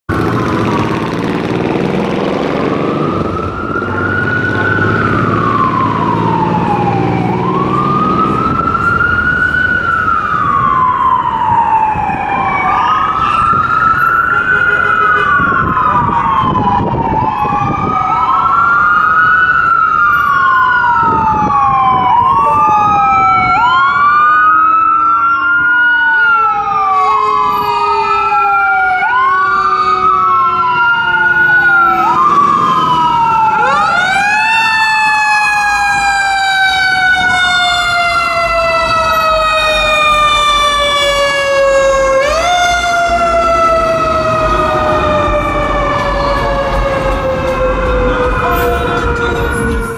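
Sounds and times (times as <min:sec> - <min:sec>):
emergency sirens wailing: 0:00.0 - 0:49.9
engine and traffic rumble: 0:00.0 - 0:49.9
low steady siren tone: 0:00.1 - 0:49.9.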